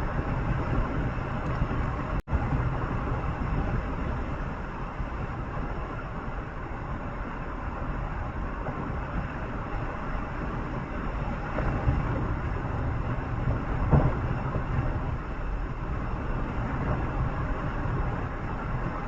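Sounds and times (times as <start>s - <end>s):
vehicle interior road rumble: 0.0s - 19.0s.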